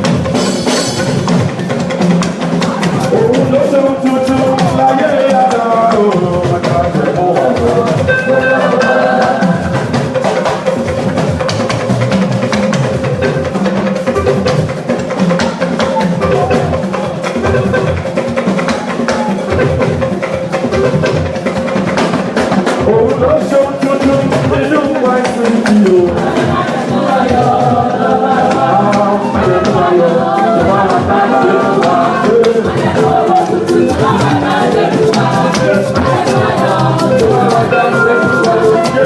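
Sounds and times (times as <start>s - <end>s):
drum kit beat: 0.0s - 39.0s
live church band music: 0.0s - 39.0s.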